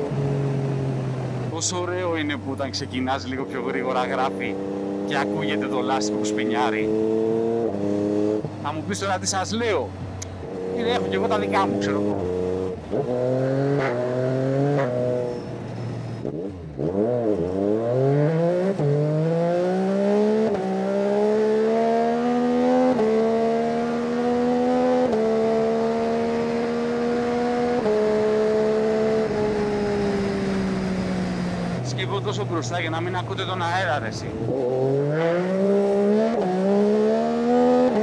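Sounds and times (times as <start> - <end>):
motorcycle engine revving through gears: 0.0 - 38.0.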